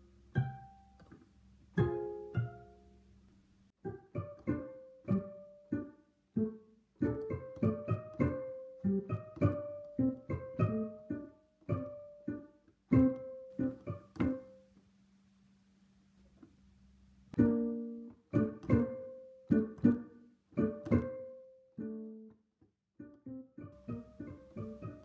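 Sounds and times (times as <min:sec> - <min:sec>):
plucked string music: 0:00.0 - 0:03.2, 0:03.8 - 0:14.8, 0:17.3 - 0:22.4, 0:23.0 - 0:25.0.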